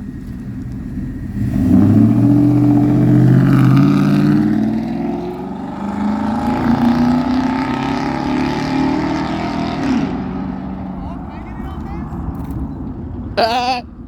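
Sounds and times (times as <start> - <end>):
pickup truck exhaust accelerating: 0.0 - 14.0.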